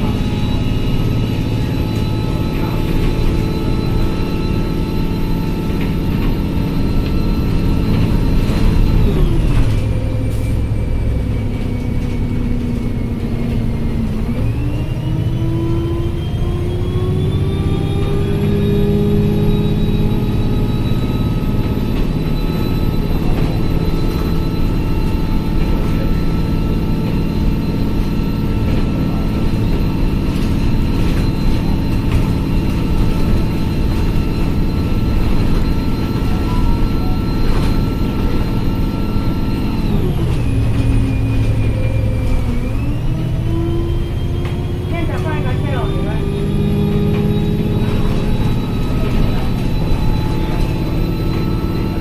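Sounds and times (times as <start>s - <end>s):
bus engine whine: 0.0s - 52.0s.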